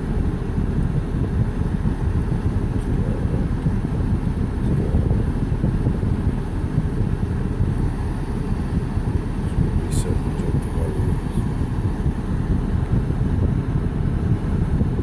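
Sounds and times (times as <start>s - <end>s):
diesel engine rough idle: 0.0s - 15.0s.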